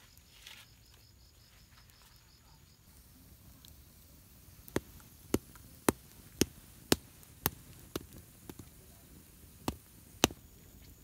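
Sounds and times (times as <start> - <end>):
wood fire popping: 0.0 - 11.0.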